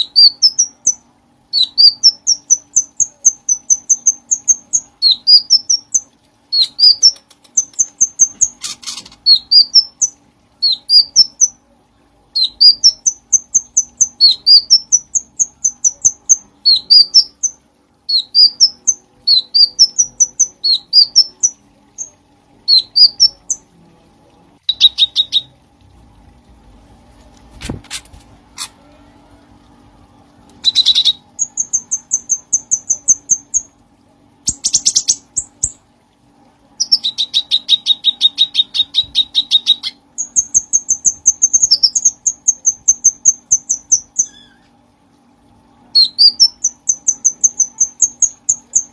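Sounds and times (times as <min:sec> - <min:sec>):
songbird chirping: 0:00.0 - 0:26.8, 0:28.5 - 0:35.9, 0:36.7 - 0:48.9
faint steady hum: 0:00.0 - 0:48.9.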